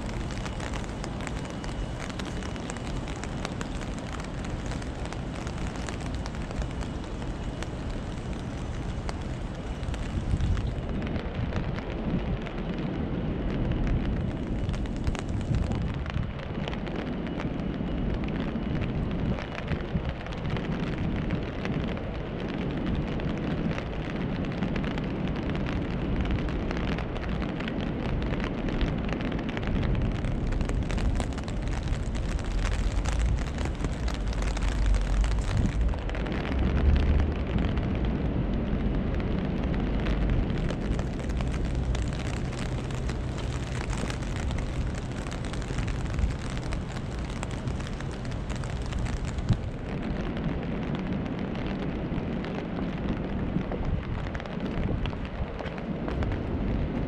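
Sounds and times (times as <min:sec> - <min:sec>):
city traffic rumble: 0:00.0 - 0:57.0
rain drops ticking: 0:00.0 - 0:57.0.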